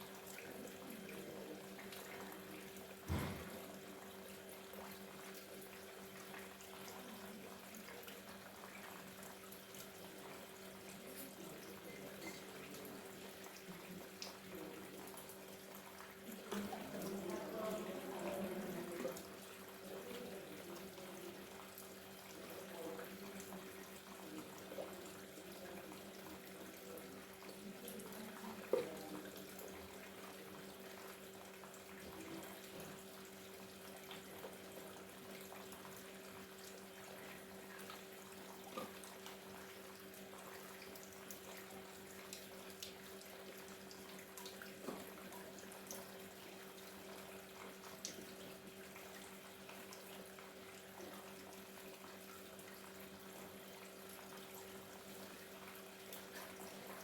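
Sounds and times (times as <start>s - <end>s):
small water drips: 0.0s - 57.0s
water trickling: 0.0s - 57.0s.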